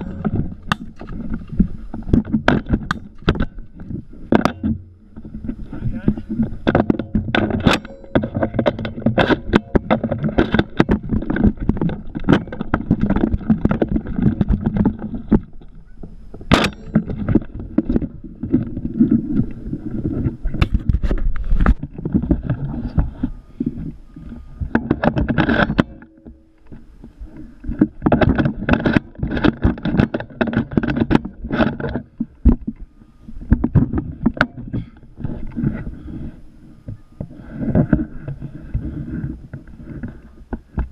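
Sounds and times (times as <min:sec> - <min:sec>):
camera handling rumble: 0:00.0 - 0:40.9.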